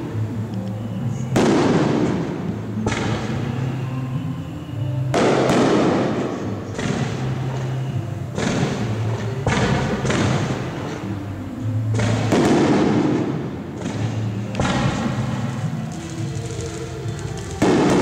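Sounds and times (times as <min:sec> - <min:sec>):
firework shells booming: 0:01.3 - 0:03.8, 0:05.1 - 0:11.2, 0:11.9 - 0:18.0.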